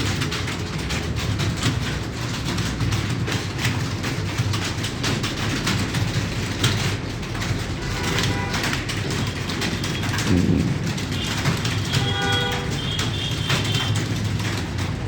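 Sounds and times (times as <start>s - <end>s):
keyboards clattering: 0.0s - 15.0s.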